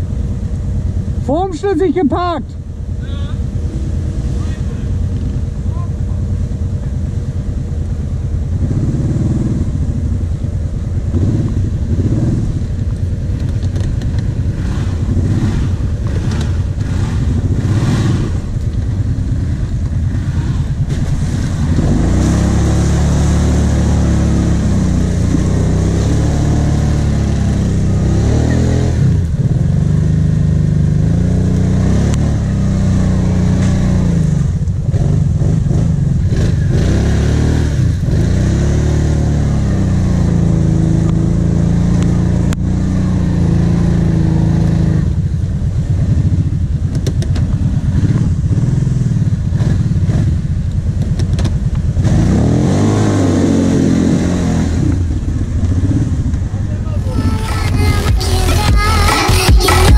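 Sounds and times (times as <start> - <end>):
quad bike engine revving: 3.0 - 7.0, 8.2 - 59.9
clatter of mud and chassis: 3.3 - 59.9.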